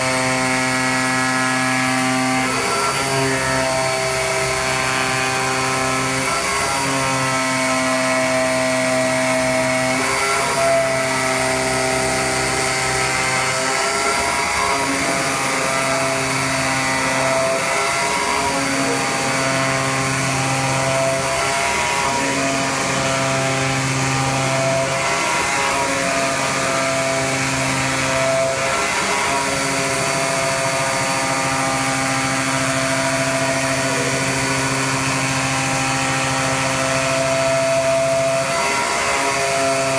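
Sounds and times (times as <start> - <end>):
cutting machine humming: 0.0 - 39.9.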